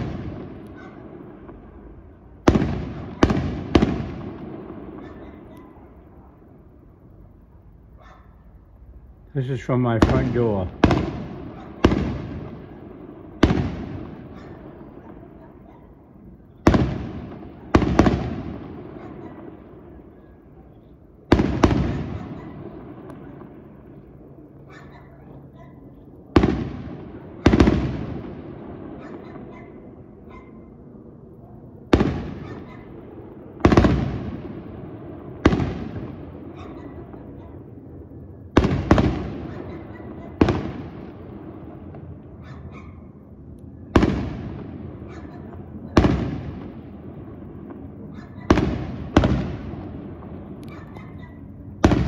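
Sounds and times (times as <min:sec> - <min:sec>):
fireworks bursting: 0:00.0 - 0:30.8, 0:31.8 - 0:52.0.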